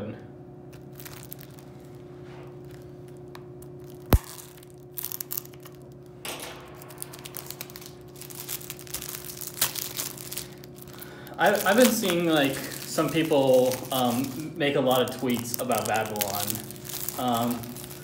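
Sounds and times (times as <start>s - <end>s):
plastic shrink wrap crinkling: 0.7s - 18.0s.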